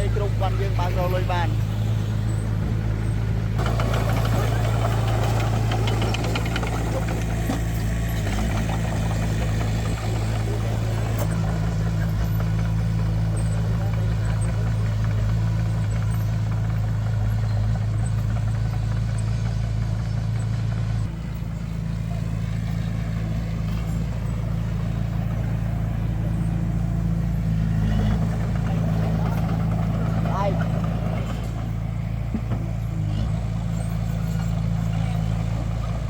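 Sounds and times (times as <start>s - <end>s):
diesel engine droning: 0.0s - 36.0s.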